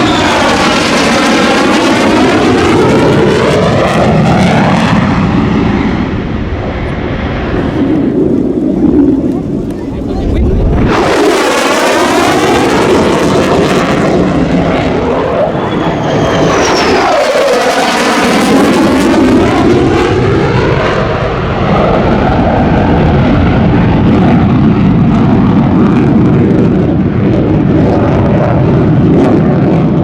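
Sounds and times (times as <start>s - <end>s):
jet aircraft flying by: 0.0s - 30.0s.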